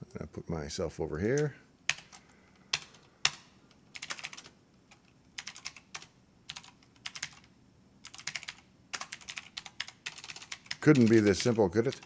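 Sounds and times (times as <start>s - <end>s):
computer keyboard typing: 1.9s - 12.0s.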